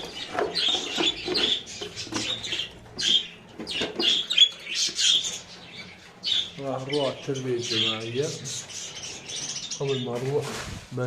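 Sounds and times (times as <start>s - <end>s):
budgerigars chirping and chattering: 0.0s - 10.6s.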